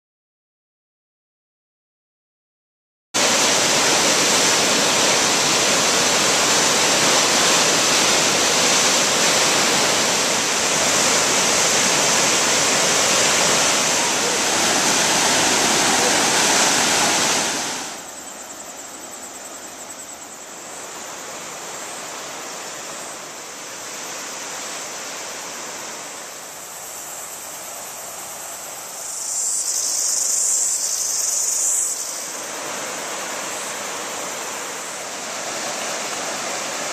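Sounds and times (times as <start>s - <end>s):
high-pitched hiss: 3.2s - 36.9s
rushing white water: 3.2s - 36.9s.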